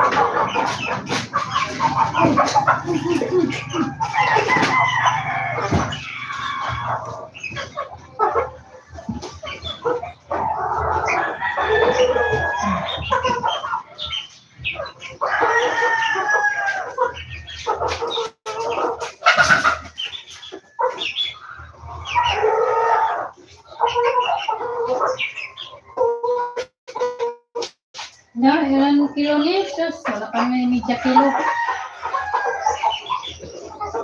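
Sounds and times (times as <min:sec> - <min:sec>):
roosters crowing: 0:00.0 - 0:14.1, 0:15.1 - 0:19.9, 0:20.6 - 0:23.4, 0:28.4 - 0:34.0
chickens clucking: 0:00.0 - 0:34.0.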